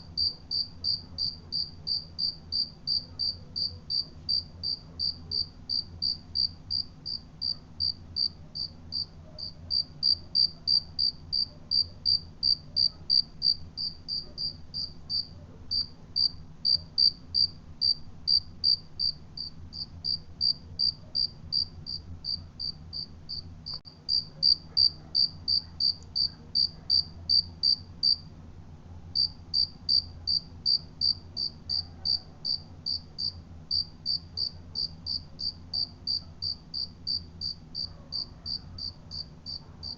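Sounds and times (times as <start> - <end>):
cricket chirping: 0.2 - 28.2, 29.2 - 39.9.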